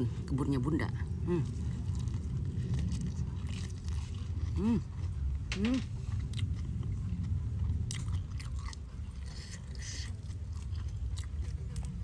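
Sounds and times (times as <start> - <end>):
person chewing food: 1.1 - 12.0.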